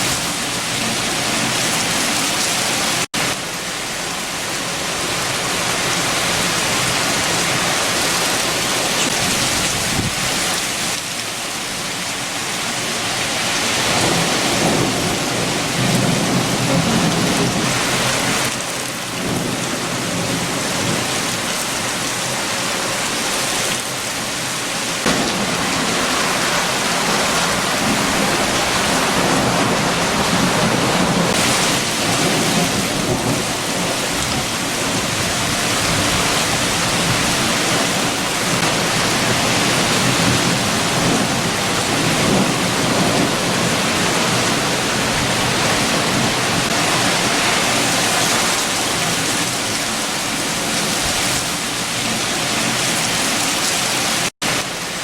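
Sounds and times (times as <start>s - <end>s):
heavy rain: 0.0s - 55.0s
strong wind: 0.0s - 55.0s.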